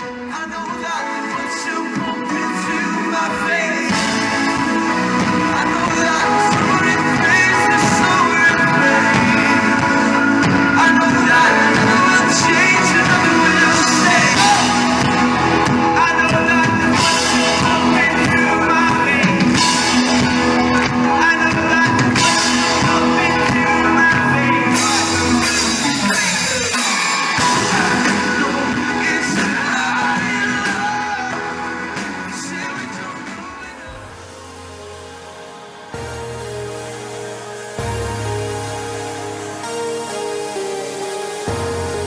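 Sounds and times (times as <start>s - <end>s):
rock-pop song with male singer: 0.0s - 42.0s.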